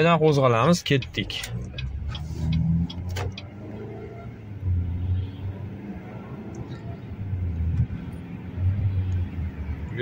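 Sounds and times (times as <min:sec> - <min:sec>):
car engine accelerating: 0:00.9 - 0:10.0.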